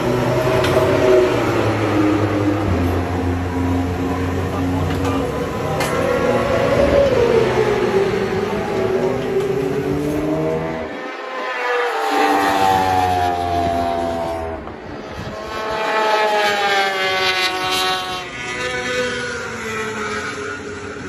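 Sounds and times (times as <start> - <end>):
racing motorcycles passing by: 0.0 - 21.0.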